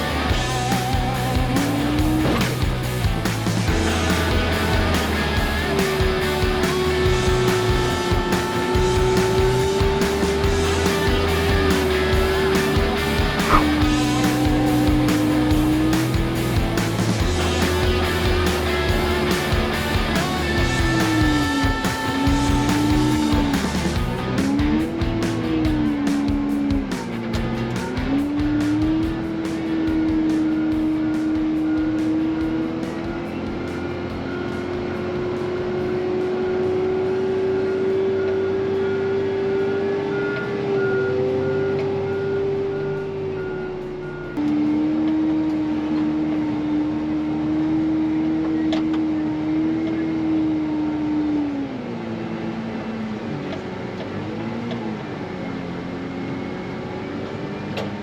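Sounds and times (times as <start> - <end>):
wheel loader engine running: 0.0 - 50.0.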